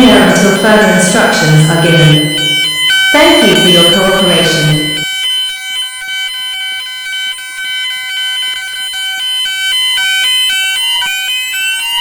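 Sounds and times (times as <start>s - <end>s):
fire alarm pulsing tone: 0.0s - 12.0s.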